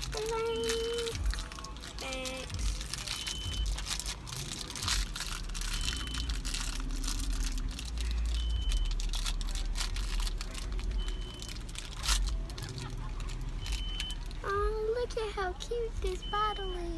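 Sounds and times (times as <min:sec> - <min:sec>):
foil wrapper crinkling and tearing: 0:00.0 - 0:14.4.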